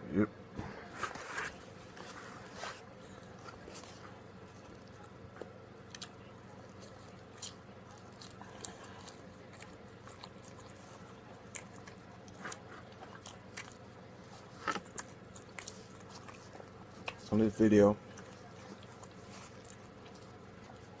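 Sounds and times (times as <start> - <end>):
faint steady hum: 0.0 - 21.0
person chewing: 2.0 - 17.4, 18.0 - 21.0.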